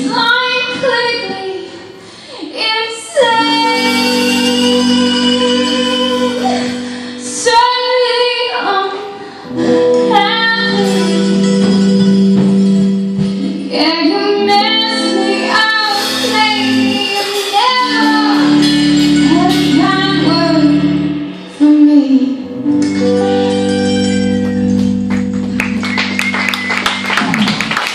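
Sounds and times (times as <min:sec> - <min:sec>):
woman singing: 0:00.0 - 0:22.5
live band music: 0:02.9 - 0:27.9.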